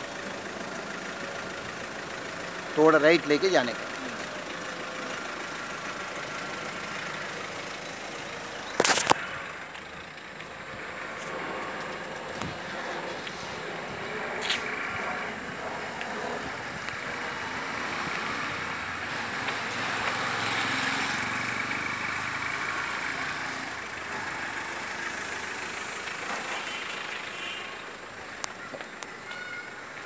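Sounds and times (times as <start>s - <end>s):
street traffic noise: 0.0s - 30.0s
car driving close by: 0.3s - 28.4s.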